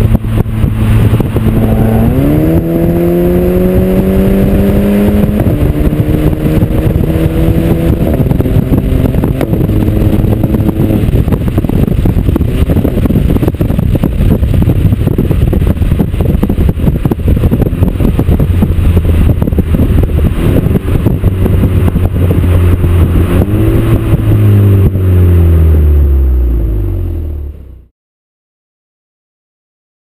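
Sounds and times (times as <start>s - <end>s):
loud deep drone: 0.0s - 12.9s, 16.6s - 27.9s
car exhaust while driving: 0.0s - 27.9s.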